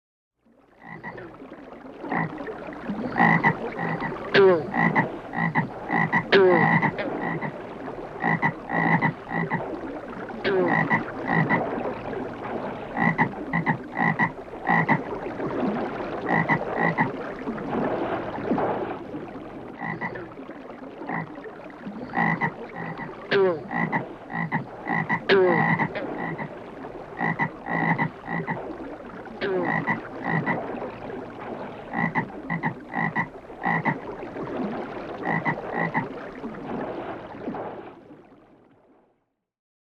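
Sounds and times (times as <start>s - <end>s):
frogs croaking: 0.8s - 11.8s, 12.9s - 17.5s, 19.3s - 36.2s.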